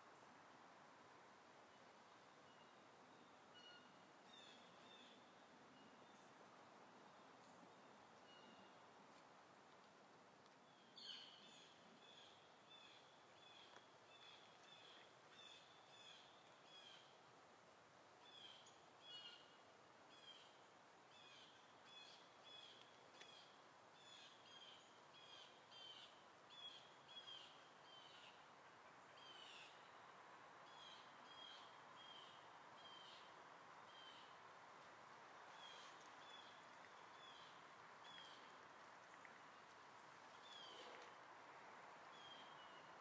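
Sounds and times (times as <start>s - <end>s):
faint background hiss: 0.0s - 43.0s
faint bird chirping: 1.7s - 8.9s, 10.6s - 17.2s, 18.2s - 34.4s, 35.5s - 41.2s, 42.0s - 43.0s.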